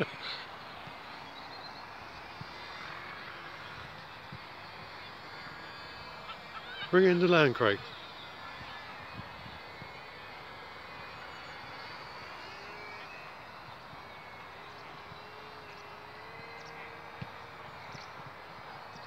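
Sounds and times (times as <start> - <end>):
model aircraft motors tone: 0.0 - 19.0.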